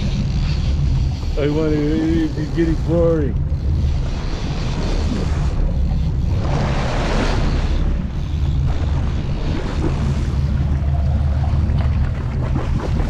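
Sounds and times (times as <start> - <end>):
boat engine running: 0.0 - 13.0
waves washing along hull: 0.0 - 13.0.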